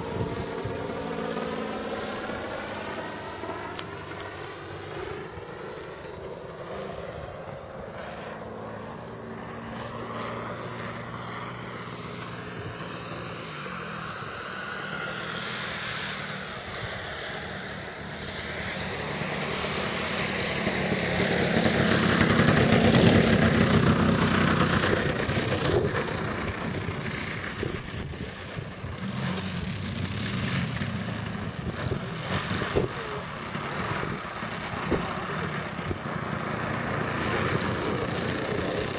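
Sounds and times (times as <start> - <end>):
model plane engine and propeller: 0.0 - 38.9.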